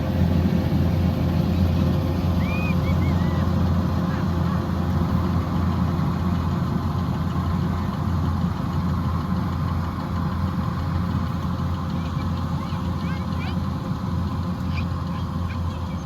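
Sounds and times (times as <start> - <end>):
combine harvester diesel engine droning: 0.0 - 16.0.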